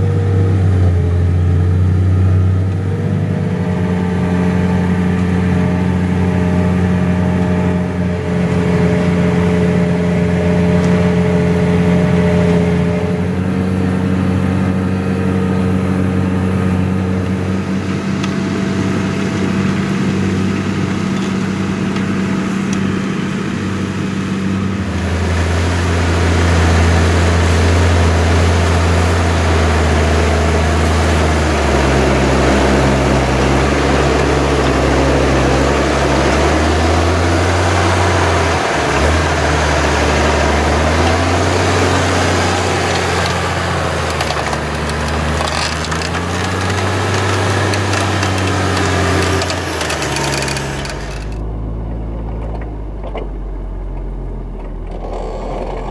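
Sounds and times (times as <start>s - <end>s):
tractor diesel engine under load: 0.0s - 55.9s
crackling rushing noise: 2.6s - 51.5s.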